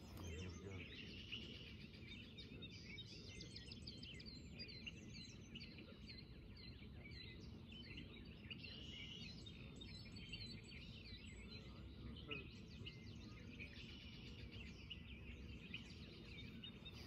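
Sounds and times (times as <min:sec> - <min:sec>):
low outdoor background noise: 0:00.0 - 0:17.0
small birds chirping: 0:00.0 - 0:17.0.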